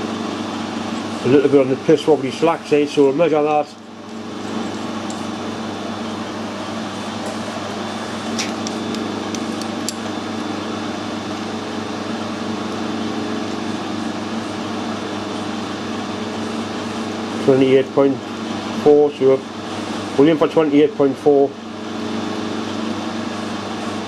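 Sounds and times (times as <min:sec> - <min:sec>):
metal lathe humming: 0:00.0 - 0:24.0.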